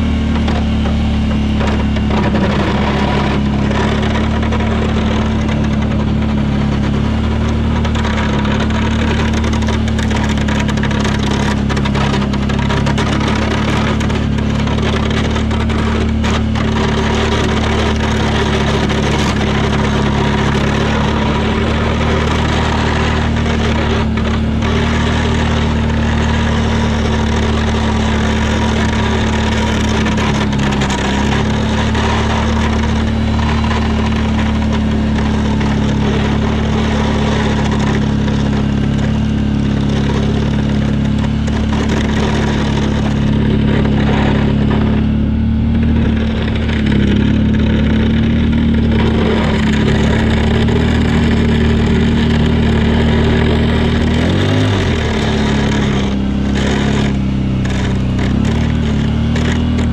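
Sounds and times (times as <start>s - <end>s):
atv engine running under load: 0.0s - 59.9s
continuous rushing noise: 0.0s - 59.9s.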